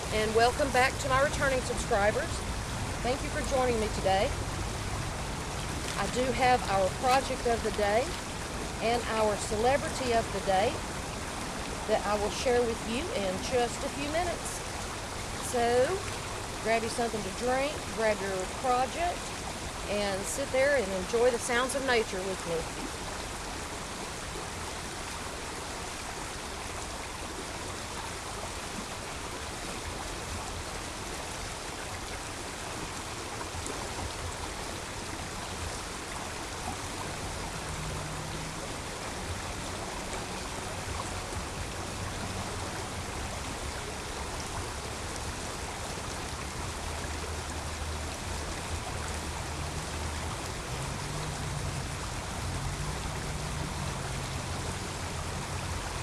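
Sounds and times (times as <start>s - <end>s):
road traffic rumble: 0.0s - 24.8s, 34.2s - 56.0s
creek water rushing: 0.0s - 56.0s.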